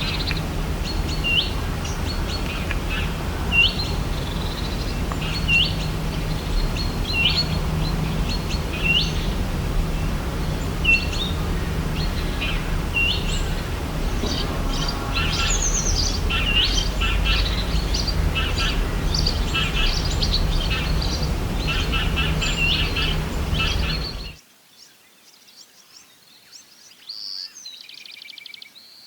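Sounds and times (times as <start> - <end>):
birds chirping: 0.0 - 24.4
low background hum: 0.0 - 24.4.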